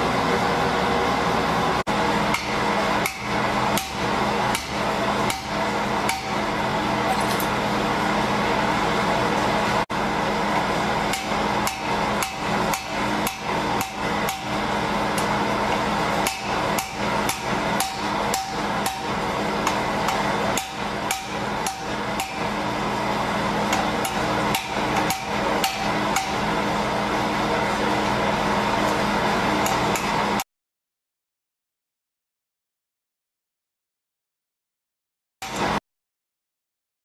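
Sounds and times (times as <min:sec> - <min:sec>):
steady hum: 0:00.0 - 0:30.4.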